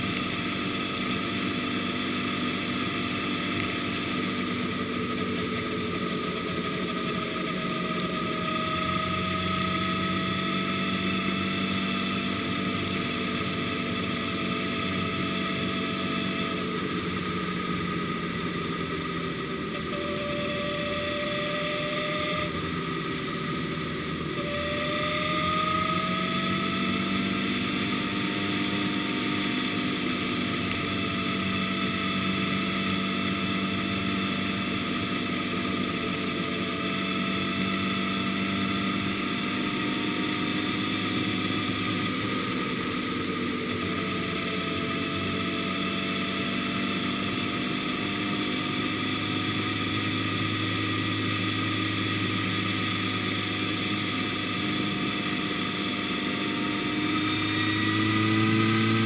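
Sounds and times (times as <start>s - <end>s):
road and wind noise: 0.0s - 59.0s
vehicle engine running: 0.0s - 59.0s.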